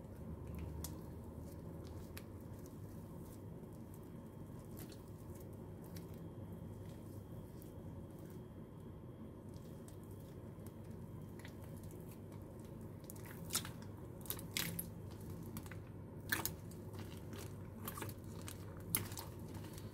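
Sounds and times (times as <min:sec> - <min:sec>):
slime squishing: 0:00.0 - 0:19.9.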